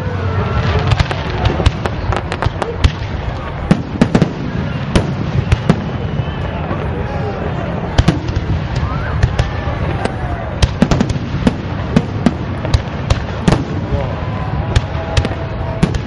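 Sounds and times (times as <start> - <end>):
whistling fireworks: 0.0 - 16.0
fireworks banging: 0.1 - 16.0.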